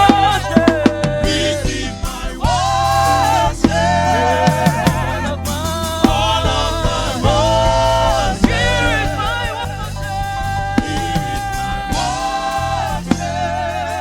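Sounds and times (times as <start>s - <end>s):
drum kit: 0.0s - 14.0s
person singing gospel: 0.0s - 14.0s
steady bass: 0.0s - 14.0s.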